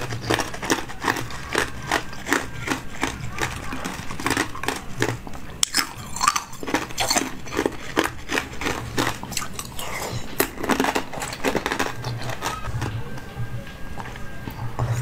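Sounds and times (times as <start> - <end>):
wet chewing crunches: 0.0 - 13.3.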